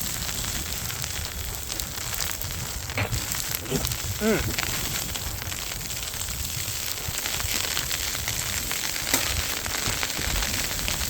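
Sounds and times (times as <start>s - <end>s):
crackling hiss: 0.0s - 11.0s.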